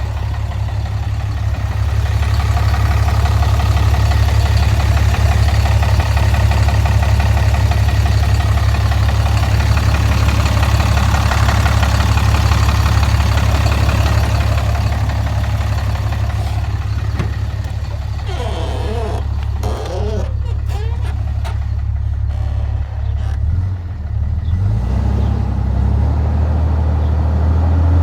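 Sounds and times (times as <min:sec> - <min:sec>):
engine knocking tick: 0:00.0 - 0:23.4
diesel engine idling: 0:00.0 - 0:28.0.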